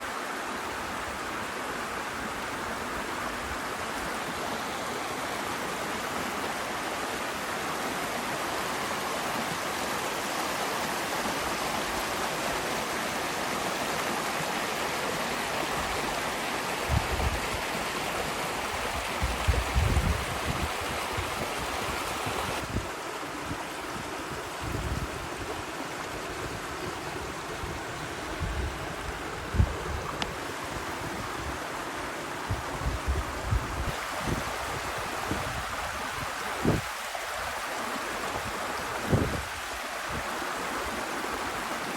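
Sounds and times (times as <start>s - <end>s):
river rushing over rocks: 0.0s - 41.9s.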